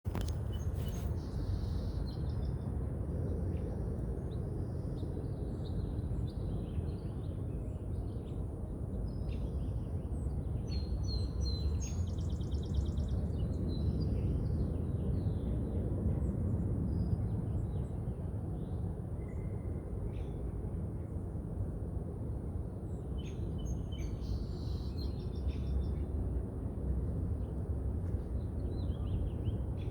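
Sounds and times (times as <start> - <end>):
low rumble of wind: 0.0 - 29.9.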